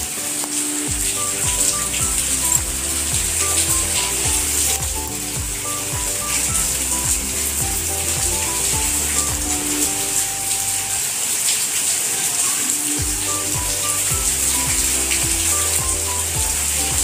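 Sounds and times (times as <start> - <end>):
background music: 0.0 - 11.3, 12.1 - 17.0
hot oil sizzling: 0.0 - 17.0.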